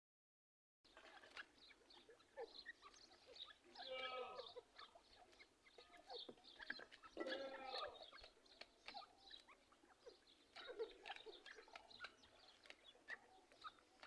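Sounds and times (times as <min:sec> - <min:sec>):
partridges chirping: 0:00.9 - 0:14.0.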